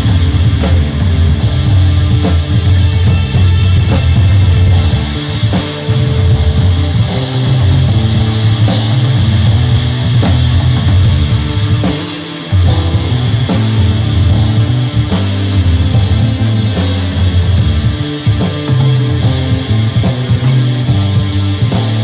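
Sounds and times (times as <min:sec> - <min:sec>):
drum kit: 0:00.0 - 0:22.0
heavy rock band playing: 0:00.0 - 0:22.0.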